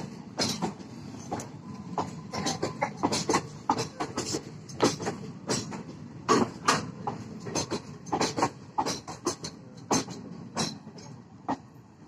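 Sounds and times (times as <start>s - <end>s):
wheels clacking on rail joints: 0.0s - 11.8s
train coaches rumbling: 0.0s - 12.0s.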